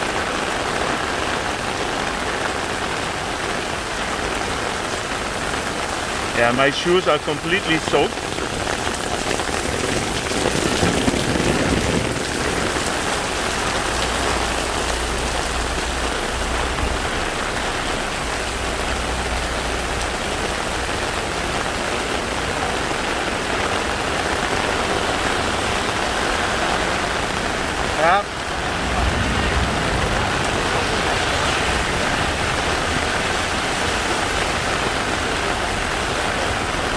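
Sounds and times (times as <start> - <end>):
heavy rain on street: 0.0 - 36.9
rain on umbrella: 0.0 - 36.9.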